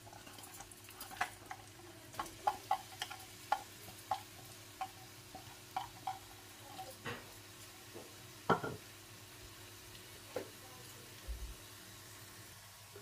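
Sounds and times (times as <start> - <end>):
onions frying and popping in oil: 0.0 - 13.0.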